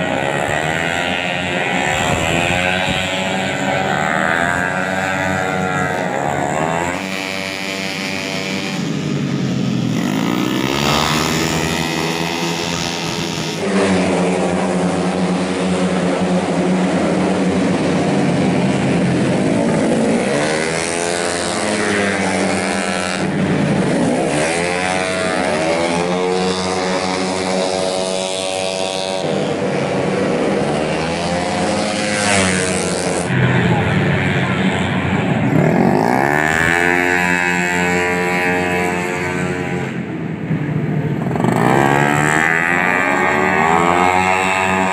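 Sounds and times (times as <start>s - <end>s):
scooter racing engines revving: 0.0s - 44.9s.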